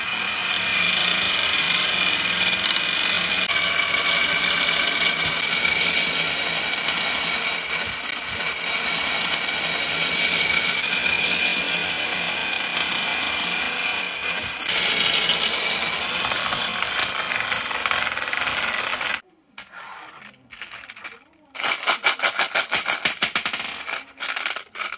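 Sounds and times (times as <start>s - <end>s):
marbles rattling on wooden track: 0.0s - 24.9s.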